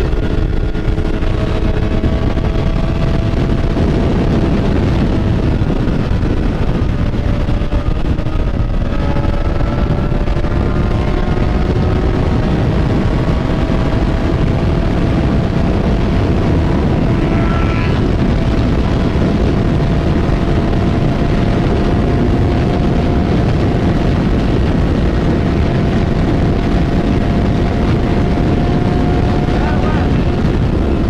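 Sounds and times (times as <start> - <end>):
motorcycle engine cruising: 0.0 - 31.0
wind rush on microphone: 0.0 - 31.0.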